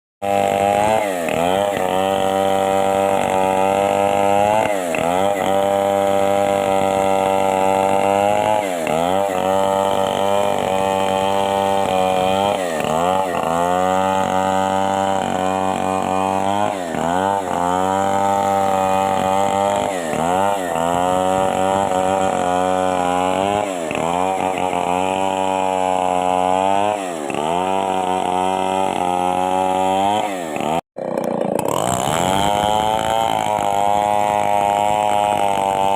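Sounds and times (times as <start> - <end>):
chainsaw cutting wood: 0.2 - 35.9.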